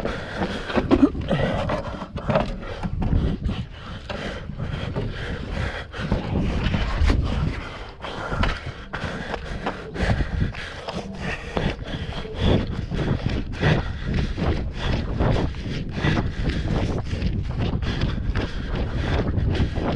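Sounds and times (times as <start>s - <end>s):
footsteps on trail: 0.0s - 19.9s
heavy breathing: 0.0s - 19.9s
irregular thumps: 0.0s - 19.9s
low rumble: 0.0s - 19.9s.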